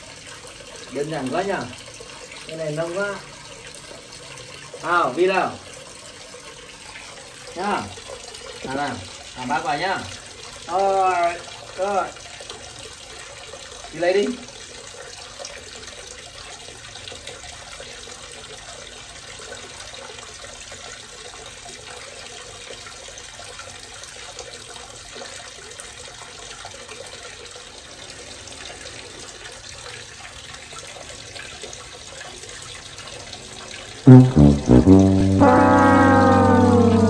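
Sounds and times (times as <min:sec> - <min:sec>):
tap water pouring into a tub: 0:00.0 - 0:34.0.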